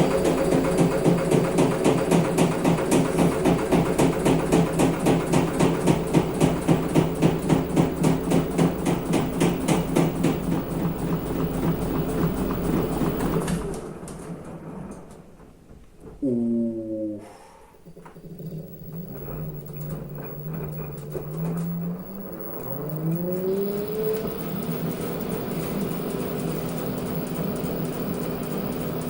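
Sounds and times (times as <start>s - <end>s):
washing machine running: 0.0s - 16.3s, 17.8s - 29.0s.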